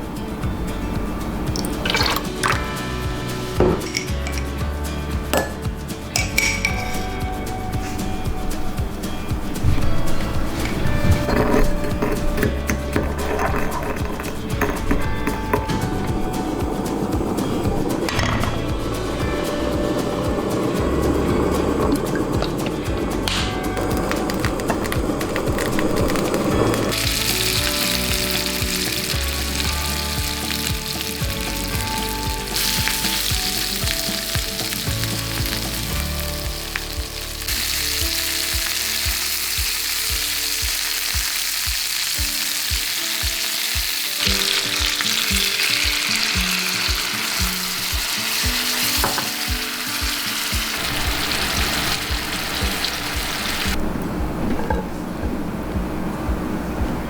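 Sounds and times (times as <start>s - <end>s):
background music: 0.0s - 57.0s
food sizzling in oil: 0.2s - 18.0s, 24.0s - 53.8s.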